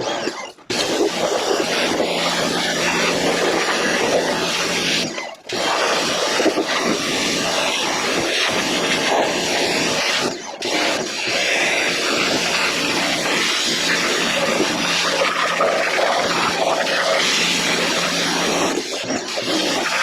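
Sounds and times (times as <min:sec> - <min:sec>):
pressure washer spraying: 0:00.0 - 0:20.0.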